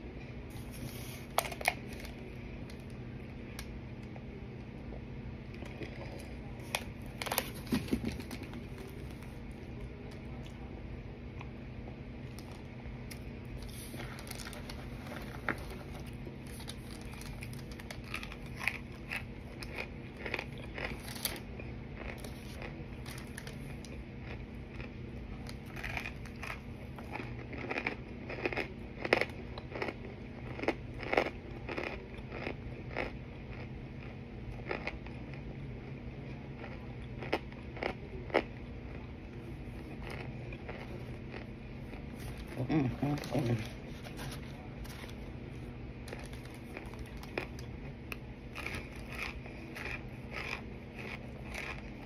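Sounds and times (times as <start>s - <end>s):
crisp chewing crunches: 5.5s - 10.6s, 12.2s - 35.4s, 36.3s - 52.0s.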